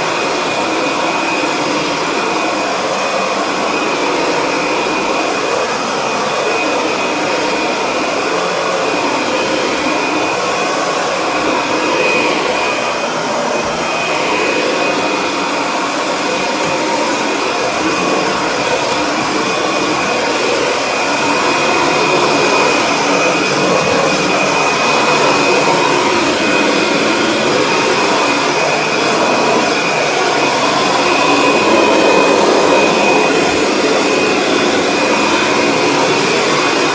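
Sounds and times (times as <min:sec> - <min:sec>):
high motor whine: 0:00.0 - 0:36.9
upright vacuum cleaner running: 0:00.0 - 0:36.9.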